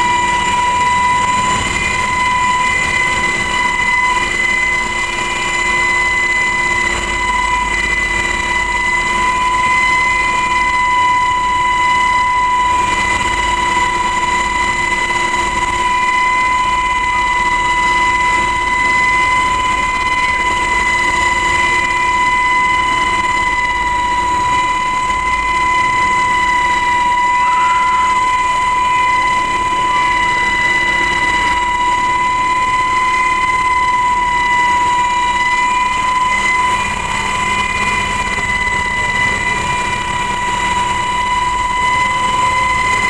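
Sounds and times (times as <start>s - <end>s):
helicopter engine and rotor noise: 0.0s - 43.0s
helicopter turbine whine: 0.0s - 43.0s.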